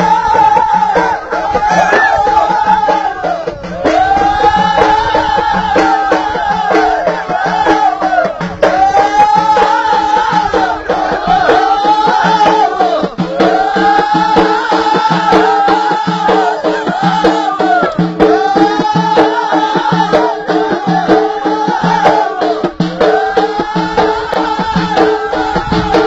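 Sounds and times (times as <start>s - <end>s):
chorus of voices singing: 0.0s - 26.0s
frame drums beating: 0.0s - 26.0s.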